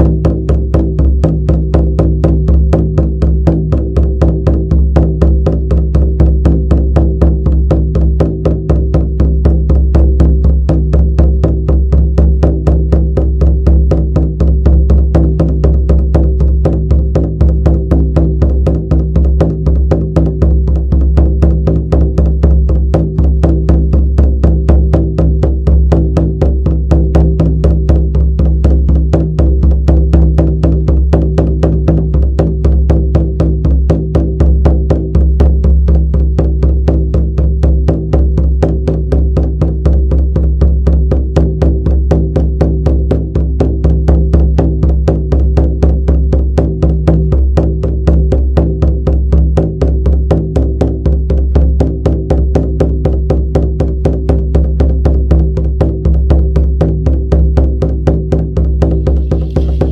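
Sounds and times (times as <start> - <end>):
continuous deep hum: 0.0 - 59.9
frame drum beaten steadily: 0.0 - 59.9.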